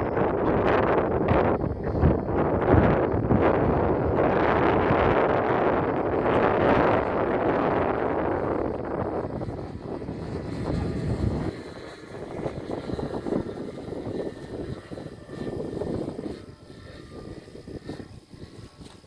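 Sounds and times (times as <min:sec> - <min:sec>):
model airplane engine: 0:00.0 - 0:19.0
wind buffeting microphone: 0:00.0 - 0:19.0.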